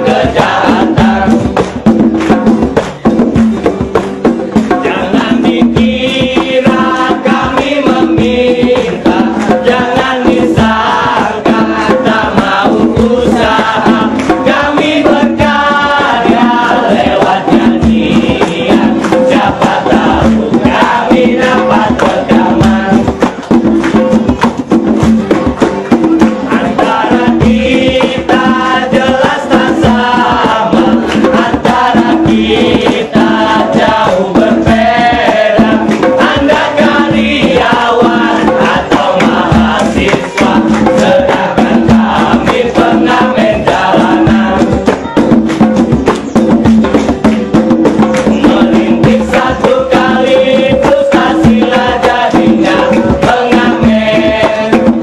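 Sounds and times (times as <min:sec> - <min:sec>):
acoustic guitar: 0:00.0 - 0:55.0
group of people singing: 0:00.0 - 0:55.0.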